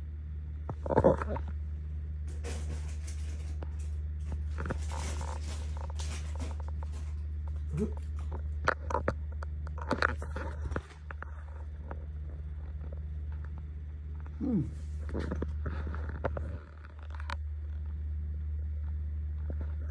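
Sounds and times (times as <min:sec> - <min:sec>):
steady low hum: 0:00.0 - 0:19.9
faint clicks and rustles: 0:00.6 - 0:19.9.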